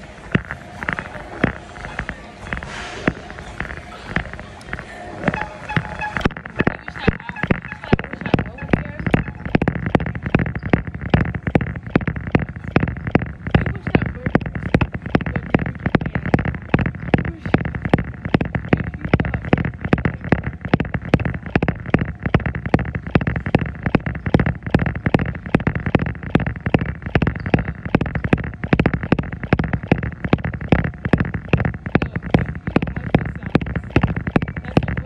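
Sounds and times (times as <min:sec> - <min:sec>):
running footfalls on treadmill: 0:00.0 - 0:35.0
treadmill hum: 0:00.0 - 0:35.0.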